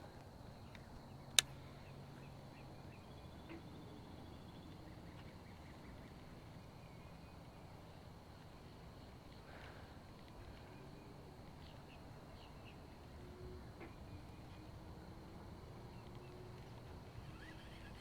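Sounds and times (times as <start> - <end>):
faint chirping: 0.0 - 18.0
faint low hum: 0.0 - 18.0.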